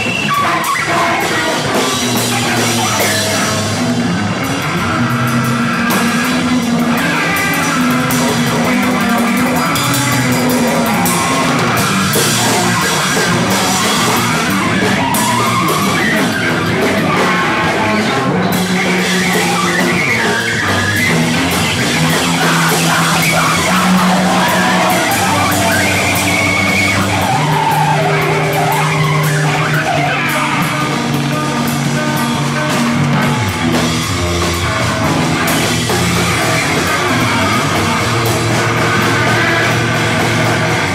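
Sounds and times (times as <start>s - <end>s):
rock band playing live: 0.0s - 40.9s
low held bass notes: 1.7s - 40.9s.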